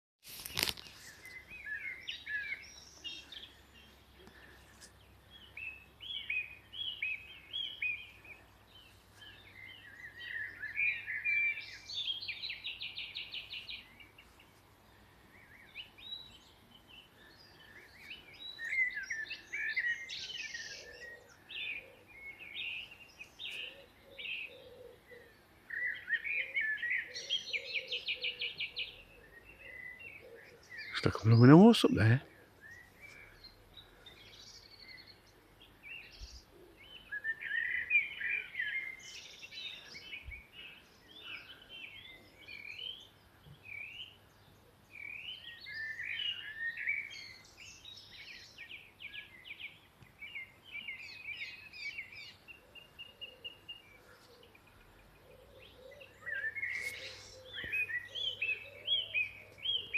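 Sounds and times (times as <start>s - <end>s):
songbirds singing: 0.3s - 59.9s.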